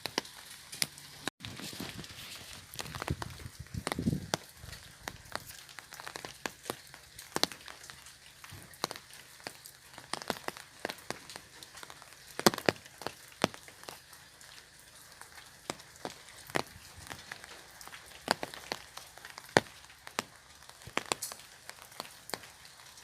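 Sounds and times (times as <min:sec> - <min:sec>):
raindrops tapping on umbrella: 0:00.0 - 0:23.0.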